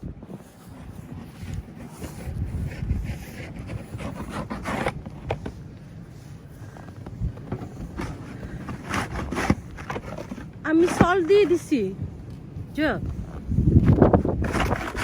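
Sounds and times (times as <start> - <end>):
wind rumbling on microphone: 0.0 - 15.0
snow shovel scraping and crunching: 0.3 - 11.9, 14.2 - 15.0.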